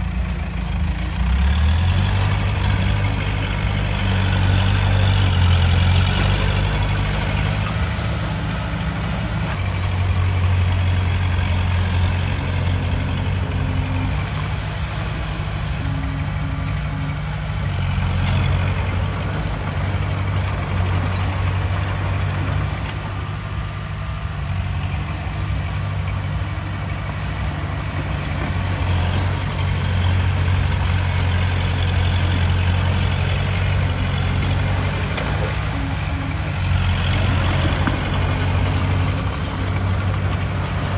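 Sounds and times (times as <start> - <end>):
heavy diesel engine under load: 0.0 - 40.9.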